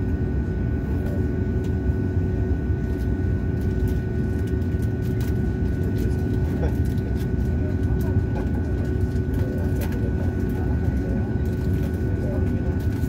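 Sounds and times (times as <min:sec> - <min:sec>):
aircraft cabin rumble: 0:00.0 - 0:13.0
aircraft systems hum: 0:00.0 - 0:13.0.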